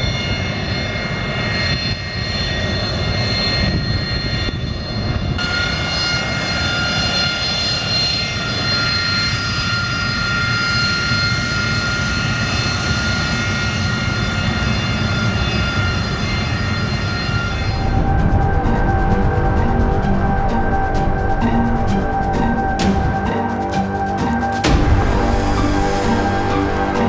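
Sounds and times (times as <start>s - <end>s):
jet engine whine and rumble: 0.0s - 27.0s.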